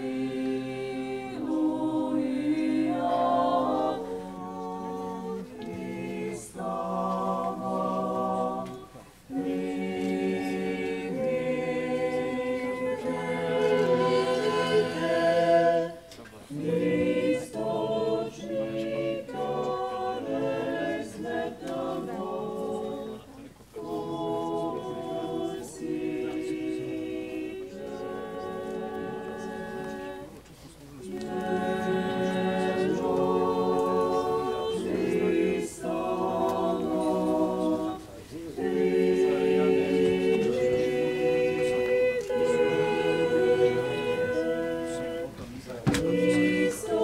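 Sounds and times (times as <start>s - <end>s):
choir singing chant: 0.0s - 47.0s.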